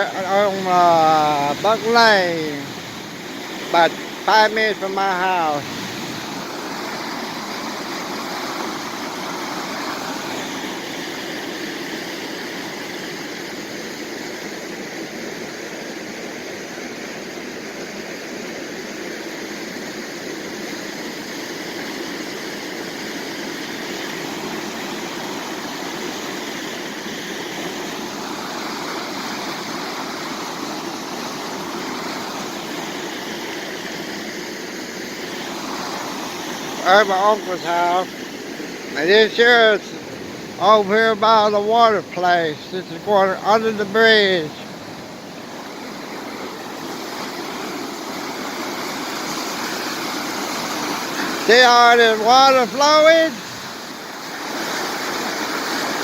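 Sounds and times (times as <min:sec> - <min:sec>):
flooded creek rushing: 0:00.0 - 0:56.0.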